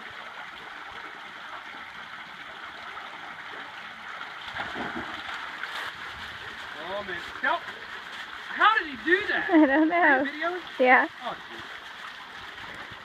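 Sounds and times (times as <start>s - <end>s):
woodland creek running: 0.0s - 13.0s.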